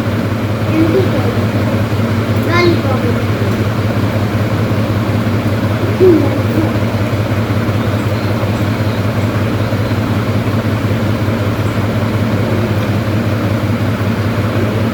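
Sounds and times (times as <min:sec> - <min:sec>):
mechanical drone with low hum: 0:00.0 - 0:14.9.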